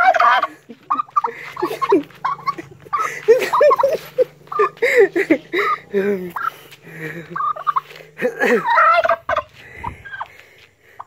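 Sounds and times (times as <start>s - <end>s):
turkey gobbling: 0.0s - 10.4s.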